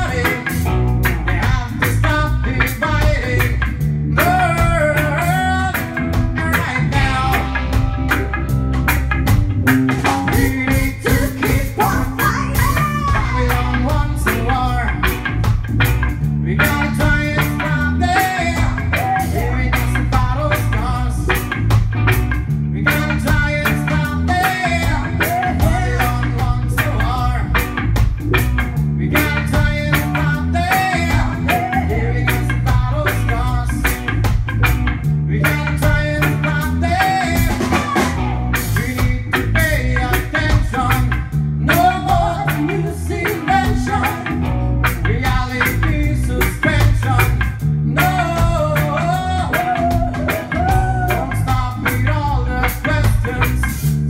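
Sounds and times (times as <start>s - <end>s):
person singing: 0.0s - 8.1s, 10.1s - 15.2s, 16.4s - 21.5s, 22.7s - 27.7s, 29.0s - 34.1s, 35.3s - 54.0s
reggae band playing: 0.0s - 54.0s.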